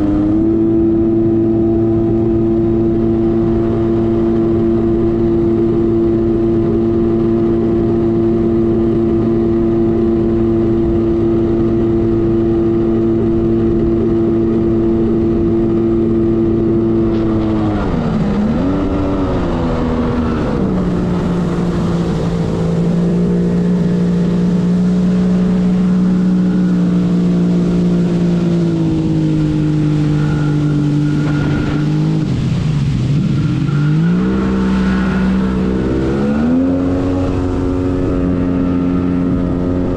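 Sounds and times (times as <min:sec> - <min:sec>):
personal watercraft engine running: 0:00.0 - 0:39.9
rushing wind: 0:00.0 - 0:39.9
water noise: 0:00.0 - 0:39.9.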